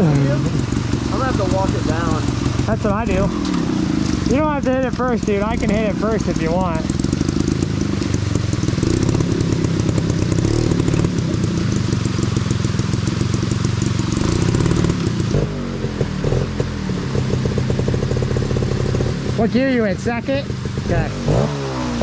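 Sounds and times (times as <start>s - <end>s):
two-stroke dirt bike engine: 0.0s - 22.0s.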